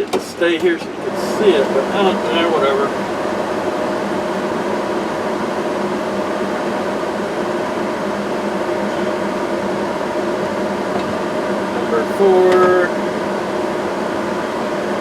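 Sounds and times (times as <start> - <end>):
heater blower fan running: 0.0 - 15.0.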